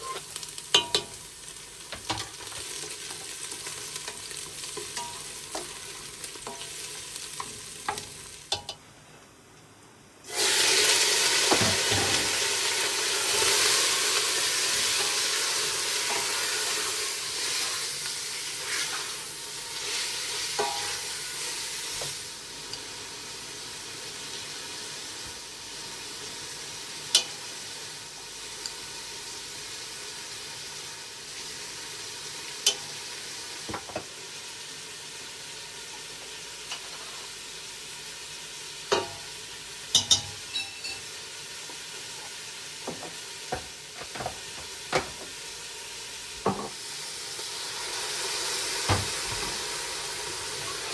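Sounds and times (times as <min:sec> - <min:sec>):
food sizzling in a pan: 0:00.0 - 0:08.8, 0:10.2 - 0:50.9.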